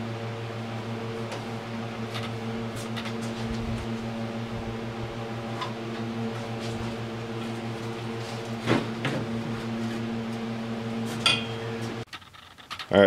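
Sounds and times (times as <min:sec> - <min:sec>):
low machine hum: 0:00.0 - 0:12.1.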